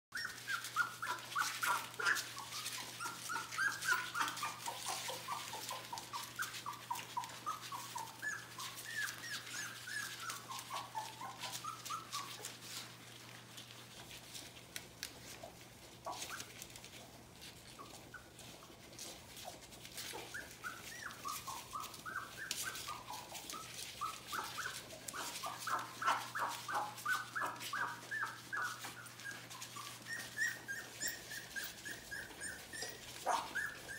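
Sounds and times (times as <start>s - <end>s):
puppies squeaking and whimpering: 0.1s - 33.9s.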